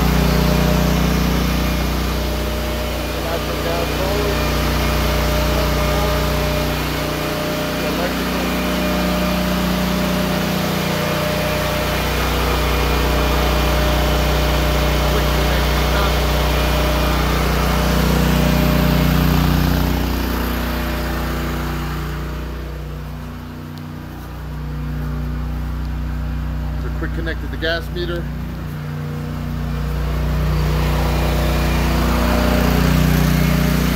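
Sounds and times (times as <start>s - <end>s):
portable generator engine running: 0.0s - 33.9s.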